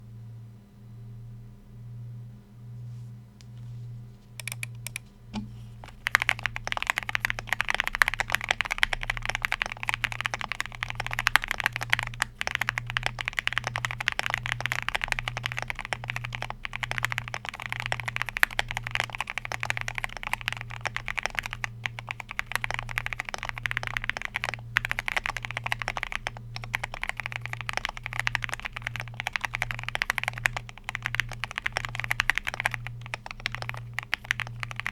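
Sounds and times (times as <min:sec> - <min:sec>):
mechanical keyboard typing: 0:04.4 - 0:34.9.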